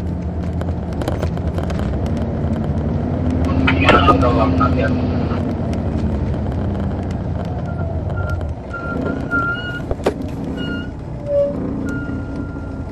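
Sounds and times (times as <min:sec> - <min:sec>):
diesel bus engine running: 0:00.0 - 0:12.9.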